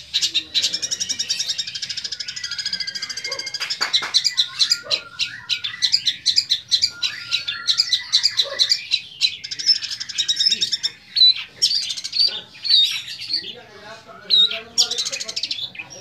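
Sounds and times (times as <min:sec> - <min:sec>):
bird singing chattering notes: 0:00.0 - 0:16.0.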